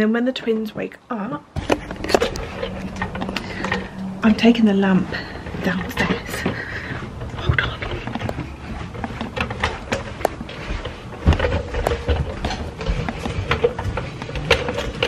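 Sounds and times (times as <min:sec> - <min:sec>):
knocks and clicks from handling: 0:01.6 - 0:04.5, 0:05.4 - 0:15.0
footsteps going down stairs: 0:01.6 - 0:15.0.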